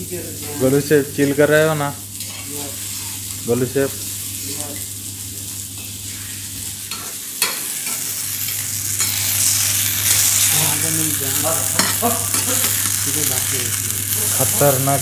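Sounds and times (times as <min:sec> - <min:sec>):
fish sizzling in oil: 0:00.0 - 0:15.0
steady low hum: 0:00.0 - 0:15.0.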